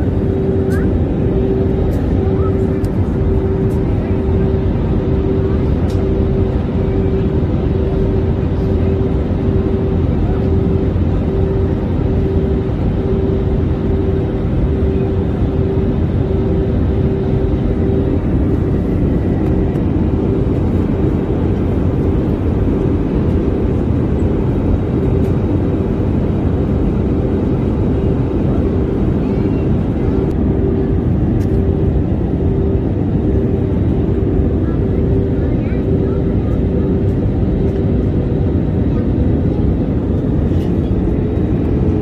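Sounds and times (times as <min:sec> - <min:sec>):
pulsing hum: 0:00.0 - 0:42.0.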